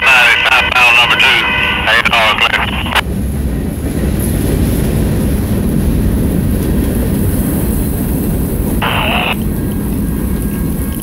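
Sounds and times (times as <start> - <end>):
train wheels rumbling on rail: 0.7 - 11.0.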